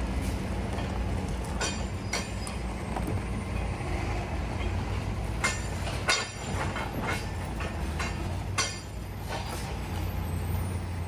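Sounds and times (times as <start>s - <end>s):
tow truck engine running: 0.0s - 11.0s
metallic clanks and rattles: 0.2s - 3.7s, 4.5s - 10.0s.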